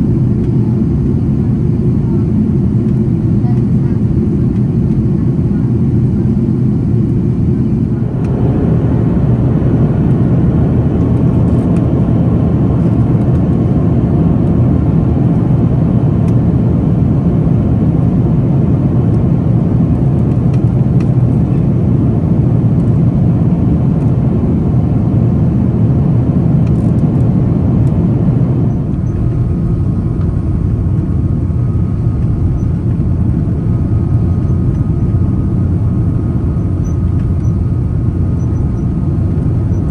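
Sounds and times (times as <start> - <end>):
jet engines and airflow rushing: 0.0 - 39.9.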